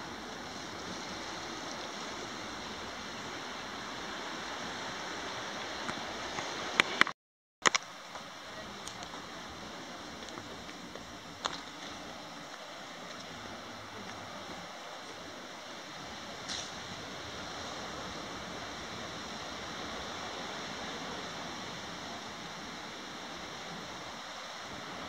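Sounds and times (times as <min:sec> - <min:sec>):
surf washing on sandy beach: 0:00.0 - 0:07.1, 0:07.9 - 0:25.0.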